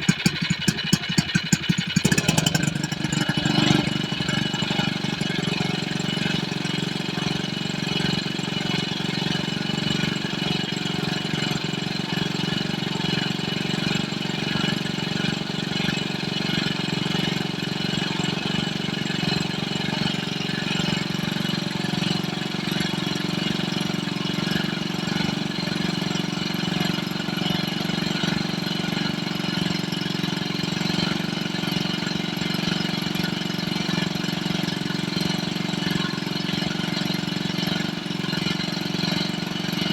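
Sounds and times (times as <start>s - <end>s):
engine pump running: 0.0s - 39.9s.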